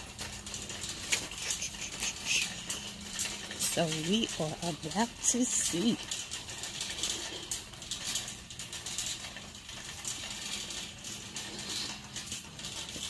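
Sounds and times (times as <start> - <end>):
small clicks and rustles: 0.0 - 13.0.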